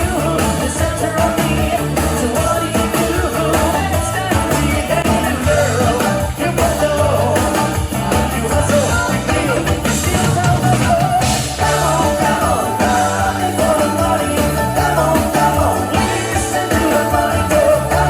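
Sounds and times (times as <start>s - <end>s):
accordion: 0.0s - 18.0s
live band playing folk rock: 0.0s - 18.0s
person singing: 0.0s - 18.0s.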